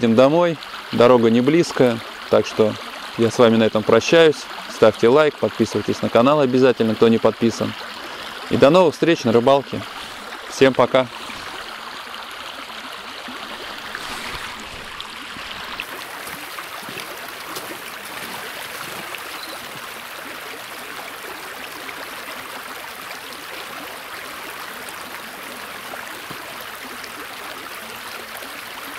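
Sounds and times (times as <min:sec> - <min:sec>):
stream running over stones: 0:00.0 - 0:28.9.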